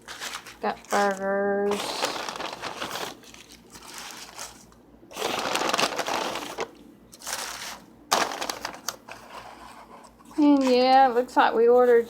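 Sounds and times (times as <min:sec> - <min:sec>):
food wrappers rustling and crinkling: 0:00.0 - 0:12.0.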